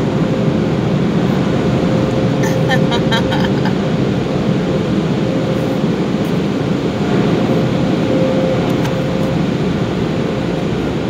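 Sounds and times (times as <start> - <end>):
car wash rushing noise: 0.0 - 11.0
faint steady whine: 0.0 - 11.0.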